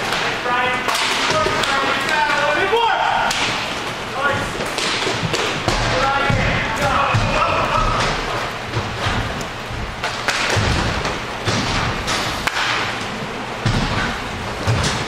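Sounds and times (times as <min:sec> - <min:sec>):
hockey sticks and puck striking: 0:00.0 - 0:15.0.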